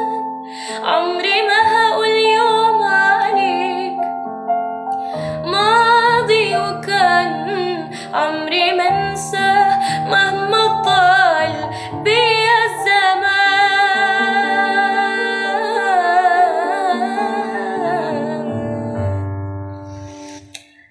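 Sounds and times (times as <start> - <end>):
woman singing: 0.0 - 4.1, 5.0 - 20.3.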